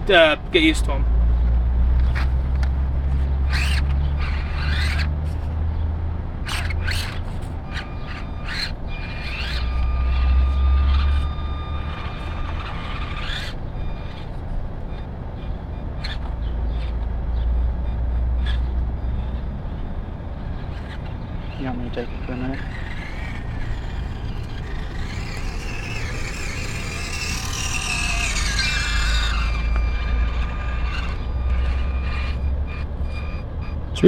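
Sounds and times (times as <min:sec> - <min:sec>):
small electric motor whining: 0:00.0 - 0:34.0
toy car clicks on terrain: 0:01.9 - 0:05.7, 0:06.3 - 0:33.5.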